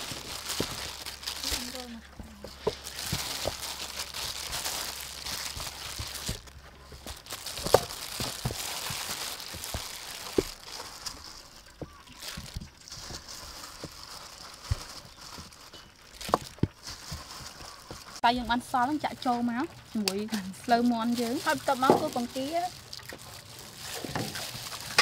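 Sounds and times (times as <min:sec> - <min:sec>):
flour and glove rustling: 0:00.0 - 0:25.0.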